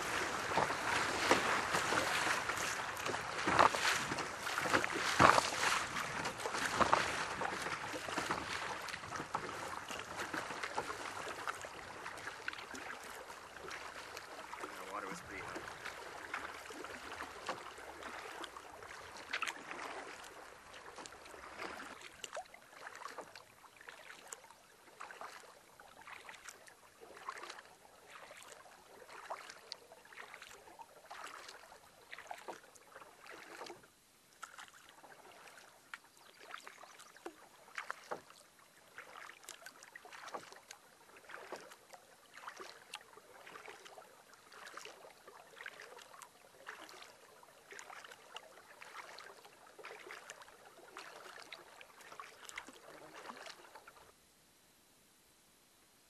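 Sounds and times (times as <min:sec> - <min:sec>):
paddle splashing in water: 0:00.0 - 0:54.2.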